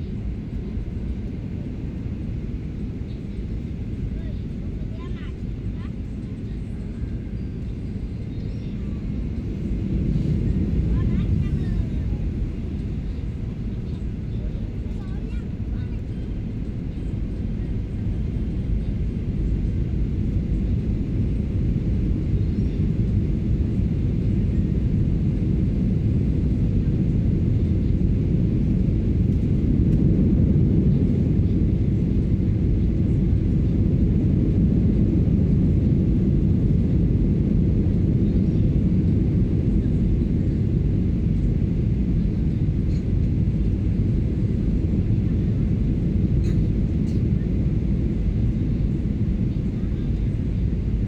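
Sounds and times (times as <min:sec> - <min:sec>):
aircraft cabin engine rumble: 0:00.0 - 0:51.0.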